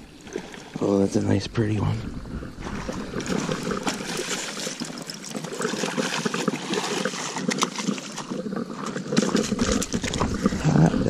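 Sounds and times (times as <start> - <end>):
fish splashing and thrashing in water: 0.0 - 1.0, 2.5 - 11.0.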